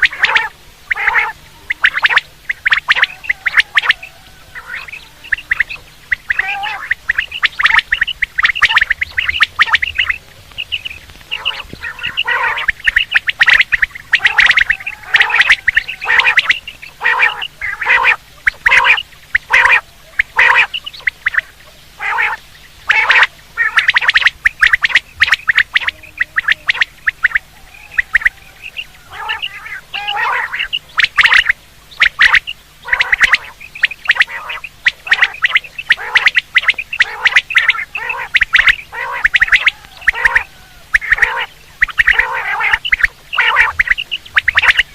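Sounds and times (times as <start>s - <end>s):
quail calling: 0.0s - 44.9s.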